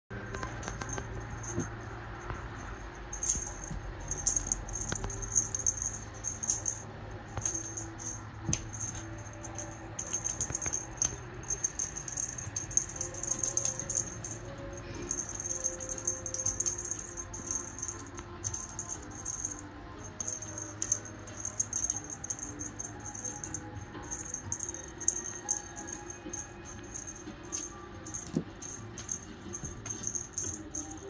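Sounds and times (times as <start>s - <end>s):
small bells jingling: 0.2s - 31.0s.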